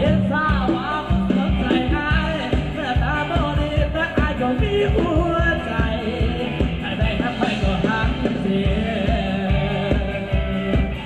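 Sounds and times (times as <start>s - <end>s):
live band with singer: 0.0s - 11.0s.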